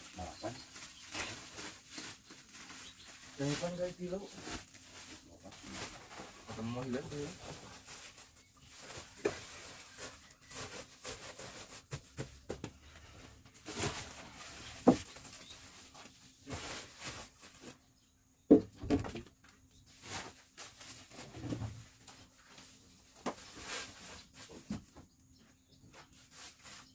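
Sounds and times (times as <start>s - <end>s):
plastic sacks rustling: 0.0s - 17.8s, 19.8s - 24.9s.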